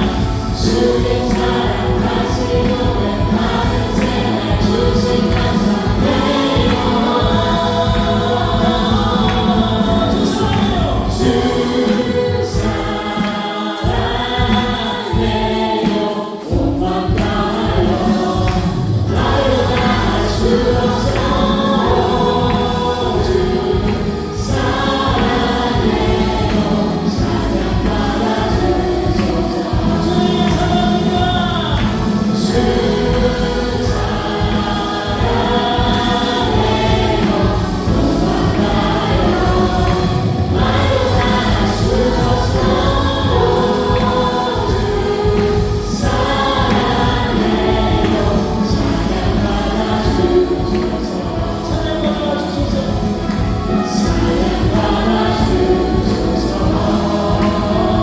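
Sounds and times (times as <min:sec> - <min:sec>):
praise band playing: 0:00.0 - 0:58.0
voices singing together: 0:00.0 - 0:58.0.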